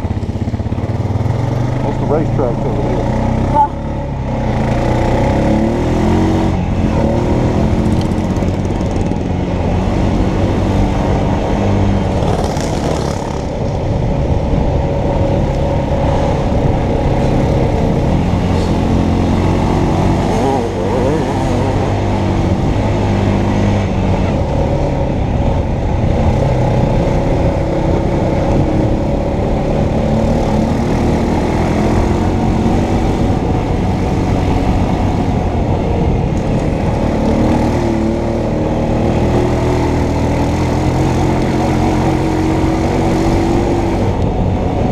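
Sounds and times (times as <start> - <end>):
atv engine revving: 0.0 - 44.9.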